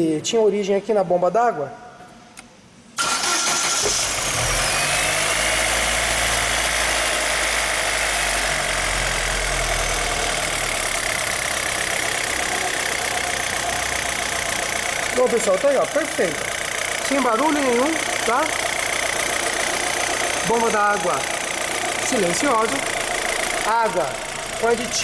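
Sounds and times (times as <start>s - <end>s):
car engine starting and idling: 3.0s - 25.0s.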